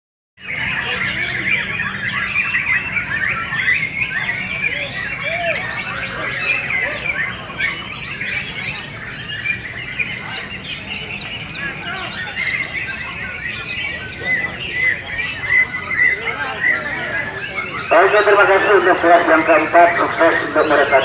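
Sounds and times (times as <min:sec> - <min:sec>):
caged songbirds singing: 0:00.4 - 0:21.0.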